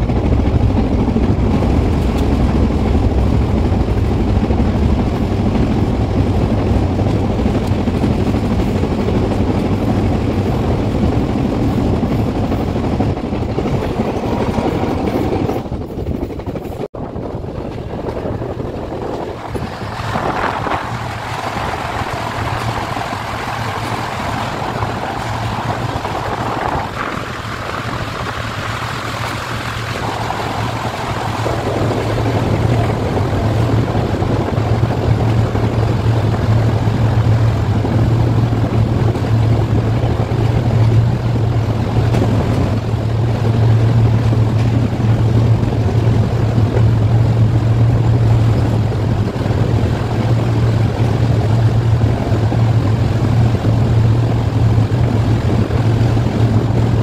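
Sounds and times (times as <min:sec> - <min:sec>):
moving train rumble: 0:00.0 - 0:57.0.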